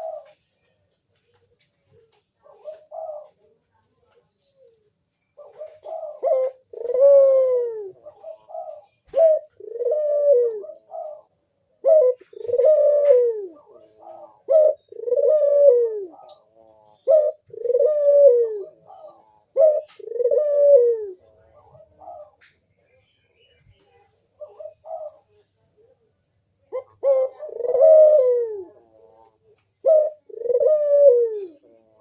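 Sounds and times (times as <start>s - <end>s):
dove cooing: 0.0s - 32.0s.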